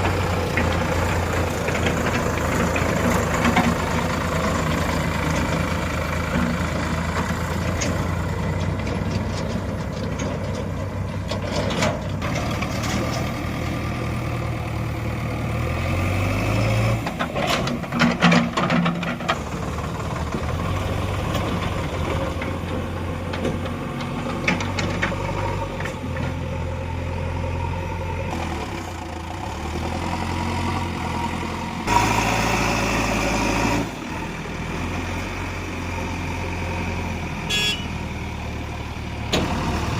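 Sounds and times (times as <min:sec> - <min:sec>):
diesel engine idling: 0:00.0 - 0:11.4, 0:12.0 - 0:16.5, 0:19.1 - 0:39.9.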